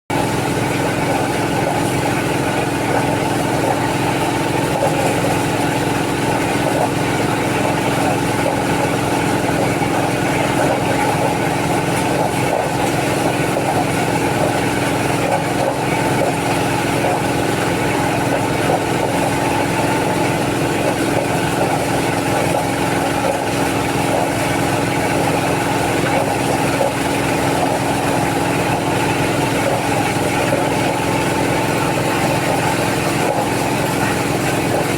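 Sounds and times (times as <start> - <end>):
corn sheller engine running: 0.1 - 34.9.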